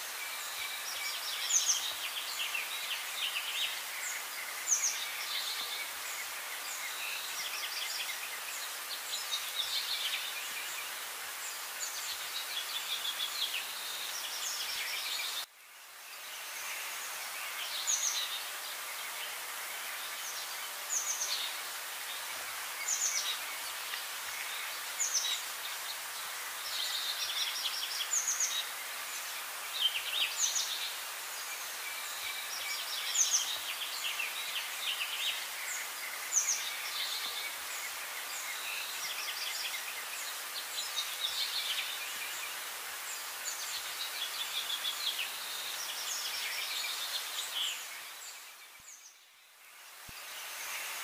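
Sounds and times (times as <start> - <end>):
steady outdoor hiss: 0.0 - 51.0.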